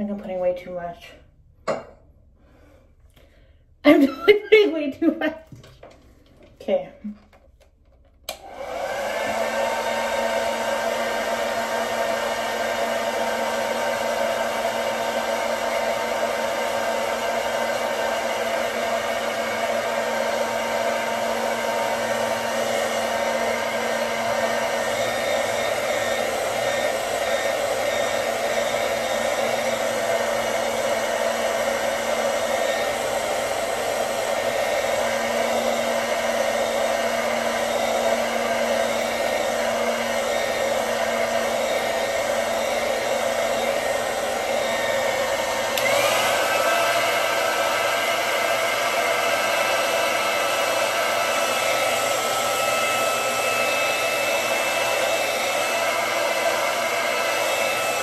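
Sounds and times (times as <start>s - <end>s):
hair dryer running: 3.9s - 58.0s.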